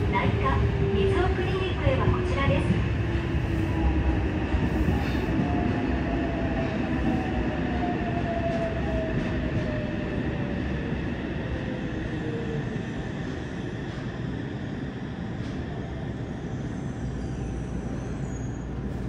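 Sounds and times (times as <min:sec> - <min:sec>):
rumble of wheels on rail: 0:00.0 - 0:19.0.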